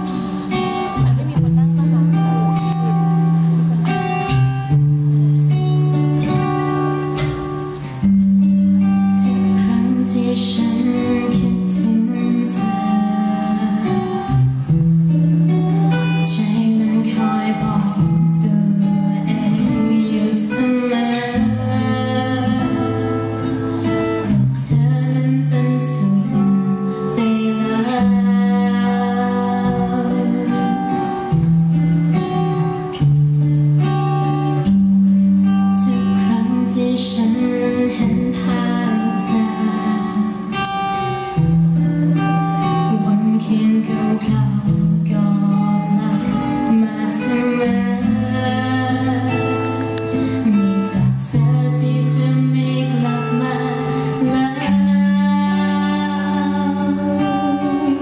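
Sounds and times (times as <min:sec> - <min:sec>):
woman singing into a microphone: 0:00.0 - 0:33.1, 0:33.8 - 0:58.0
instrumental backing track: 0:00.0 - 0:58.0.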